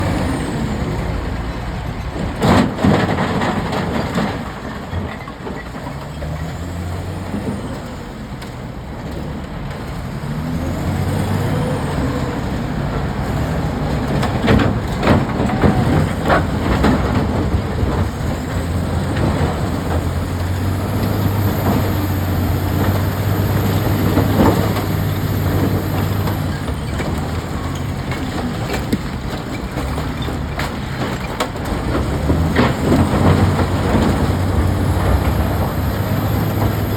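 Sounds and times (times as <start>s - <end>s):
wheel loader diesel engine revving: 0.0s - 36.9s.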